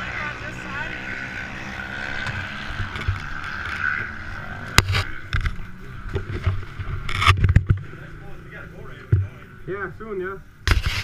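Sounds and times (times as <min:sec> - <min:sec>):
distant engines droning: 0:00.0 - 0:10.7
low bumps: 0:00.0 - 0:11.0.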